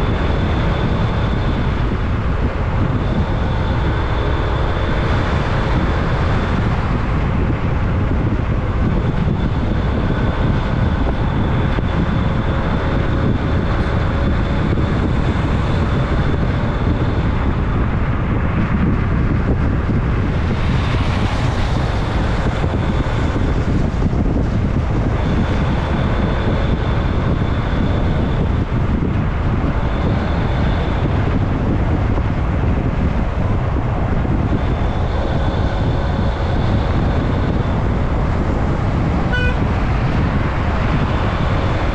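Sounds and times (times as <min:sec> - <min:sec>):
vehicle engine and road noise: 0:00.0 - 0:41.9
wind buffeting microphone: 0:00.0 - 0:41.9.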